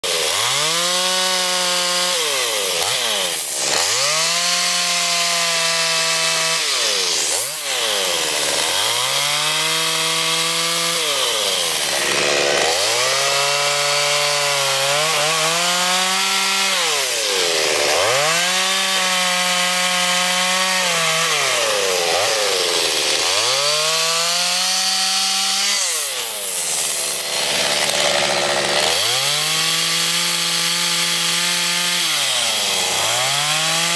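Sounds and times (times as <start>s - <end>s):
chainsaw carving wood: 0.0s - 33.9s.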